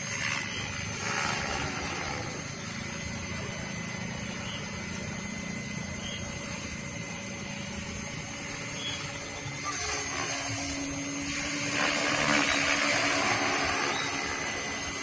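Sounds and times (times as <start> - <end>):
model helicopter rotor hum and whine: 0.0 - 15.0.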